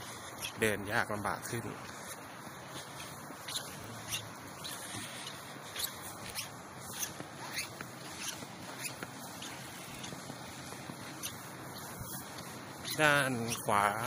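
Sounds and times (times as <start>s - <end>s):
footsteps crunching in snow: 0.0s - 14.0s
steady hiss: 0.0s - 14.0s.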